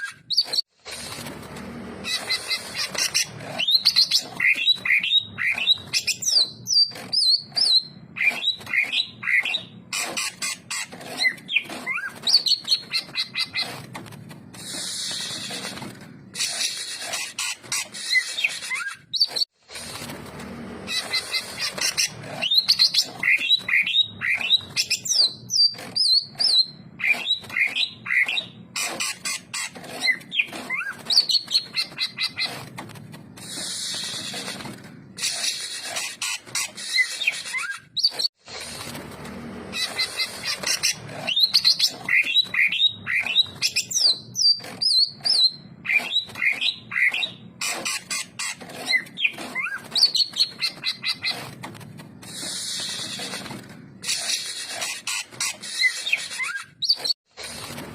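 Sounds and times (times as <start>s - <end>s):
bird harsh rasping: 0.0s - 57.9s.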